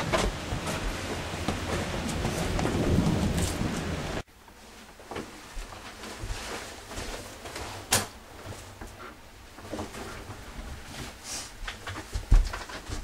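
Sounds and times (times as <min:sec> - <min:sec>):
clothing rustling: 0:00.0 - 0:13.0.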